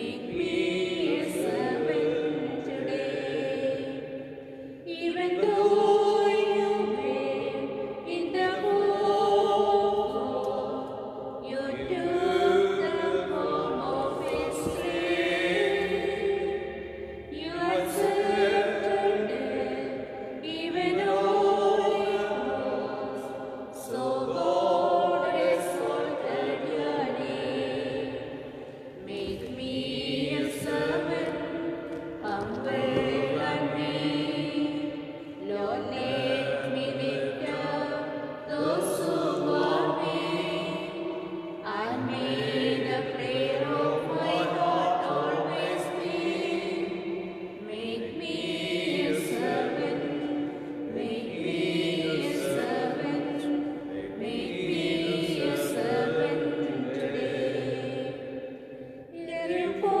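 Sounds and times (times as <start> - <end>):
slow hymn singing: 0.0 - 60.0.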